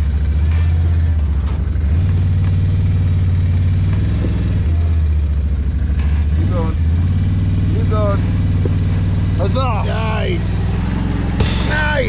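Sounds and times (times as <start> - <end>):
atv engine at low speed: 0.0 - 12.0.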